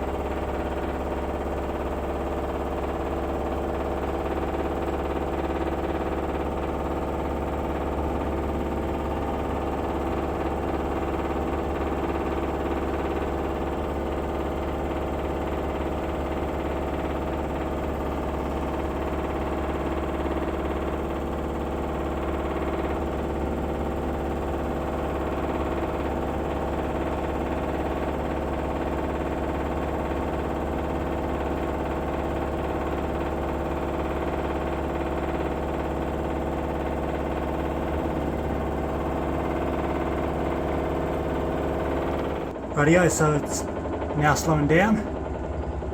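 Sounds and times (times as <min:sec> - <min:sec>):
washing machine spinning: 0:00.1 - 0:42.7, 0:43.4 - 0:44.2, 0:44.9 - 0:45.9.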